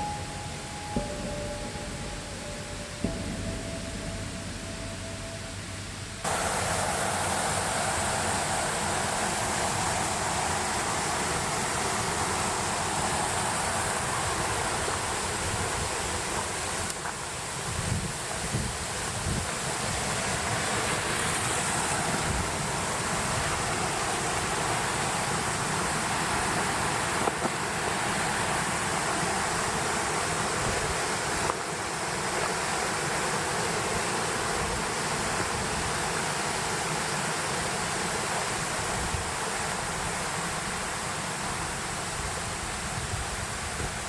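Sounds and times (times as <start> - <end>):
flowing water rushing: 0.0 - 44.0.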